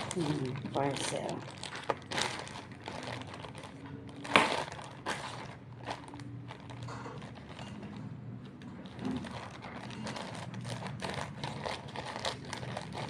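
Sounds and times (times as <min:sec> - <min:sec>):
packaging crinkling and rustling: 0:00.0 - 0:13.0
sharp packaging crackle: 0:00.0 - 0:13.0.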